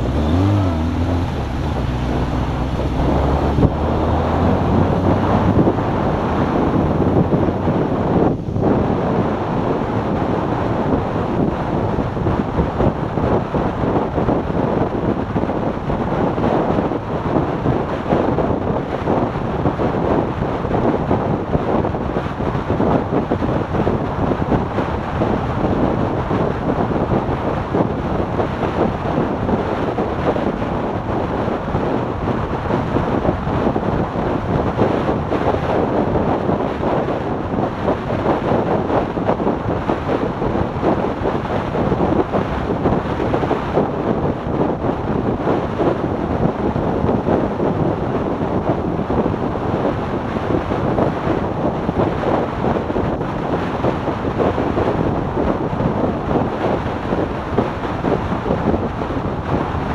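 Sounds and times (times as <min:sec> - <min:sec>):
vehicle noise: 0:00.0 - 0:59.9
wind buffeting microphone: 0:00.0 - 0:59.9.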